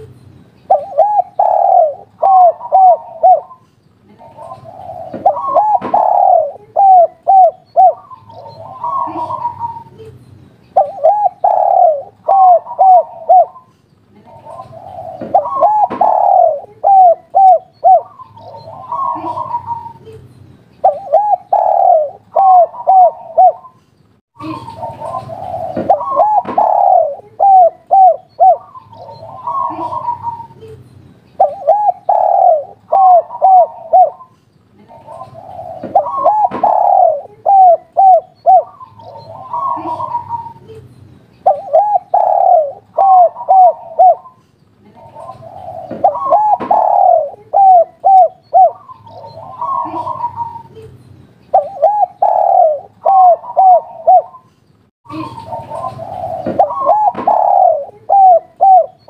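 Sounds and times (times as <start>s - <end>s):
dove cooing: 0.7s - 10.1s, 10.8s - 13.7s, 14.3s - 20.2s, 20.8s - 23.8s, 24.4s - 30.8s, 31.4s - 50.9s, 51.5s - 54.5s, 55.1s - 59.0s.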